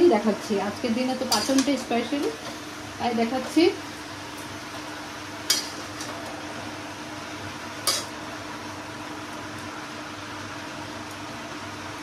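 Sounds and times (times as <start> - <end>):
vegetables frying: 0.0 - 12.0.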